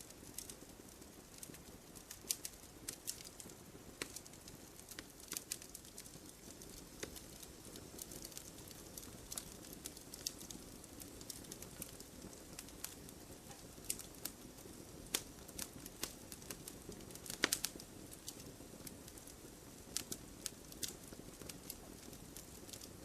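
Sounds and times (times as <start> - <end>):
fire hissing: 0.0 - 23.0
burning logs popping and snapping: 0.1 - 23.0.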